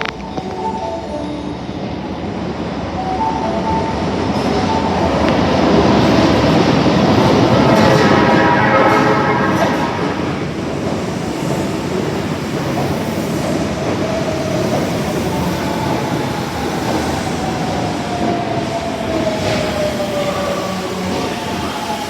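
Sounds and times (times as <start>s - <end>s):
subway train wheel noise: 0.0s - 22.0s.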